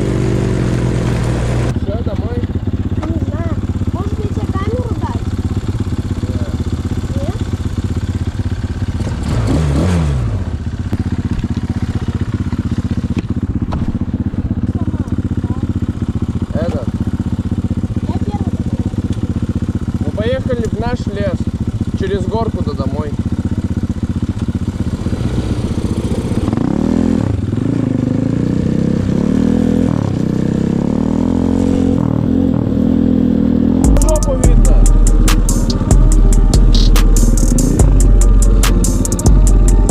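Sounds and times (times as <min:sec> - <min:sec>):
small engine idling and revving: 0:00.0 - 0:39.9.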